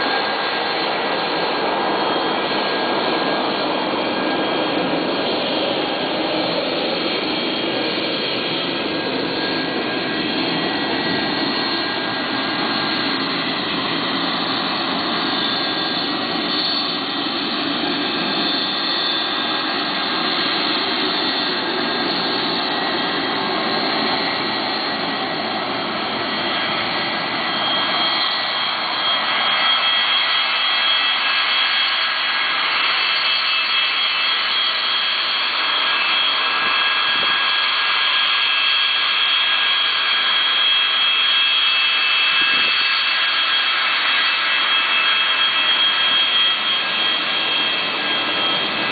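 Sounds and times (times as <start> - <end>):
jet engines whining: 0.0 - 48.9.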